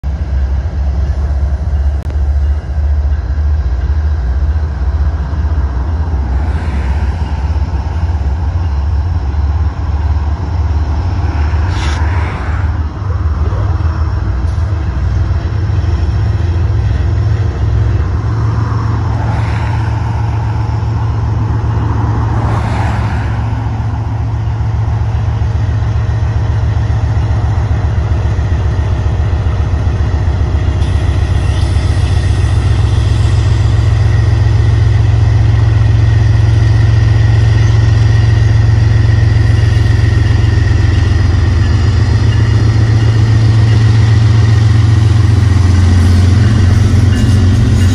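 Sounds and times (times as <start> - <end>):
locomotive engine drone: 0.0 - 47.9.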